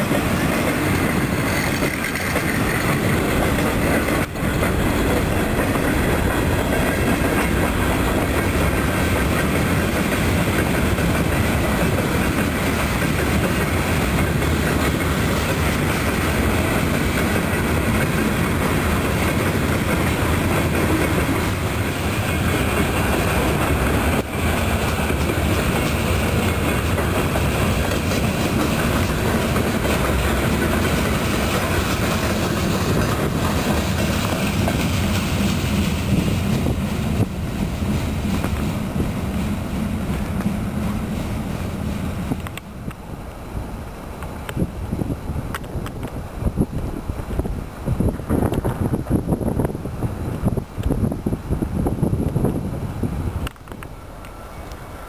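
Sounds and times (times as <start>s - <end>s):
freight train wheels rolling on rails: 0.0s - 55.0s.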